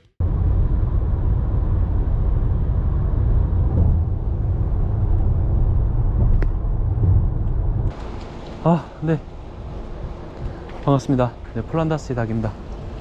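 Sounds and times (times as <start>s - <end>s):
road and engine noise in car: 0.2s - 13.0s.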